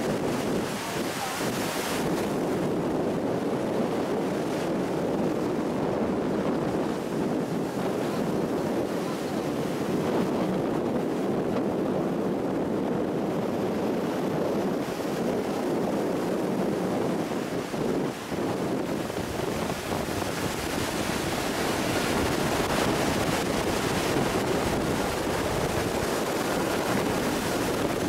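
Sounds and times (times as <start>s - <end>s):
waves breaking on rocky shore: 0.0s - 28.0s
wind buffeting microphone: 0.0s - 28.0s.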